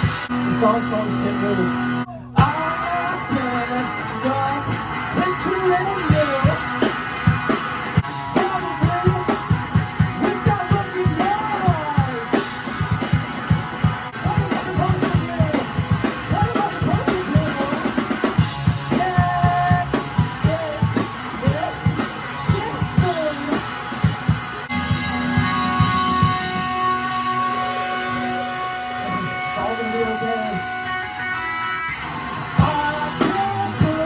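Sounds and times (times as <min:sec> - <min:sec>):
drum kit beat: 0:00.0 - 0:00.7, 0:04.6 - 0:34.0
rock band music: 0:00.0 - 0:34.0.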